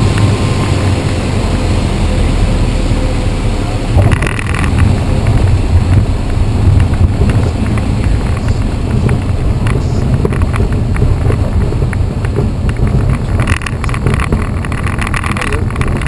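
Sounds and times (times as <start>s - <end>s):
aircraft cabin rumble: 0.0s - 16.0s.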